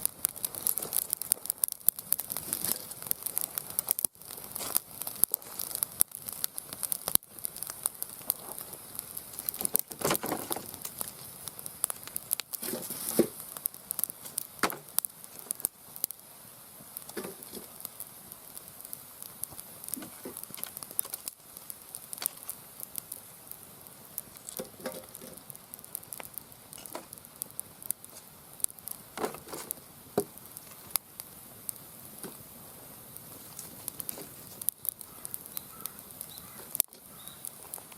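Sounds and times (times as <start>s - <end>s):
campfire crackling: 0.0s - 37.9s.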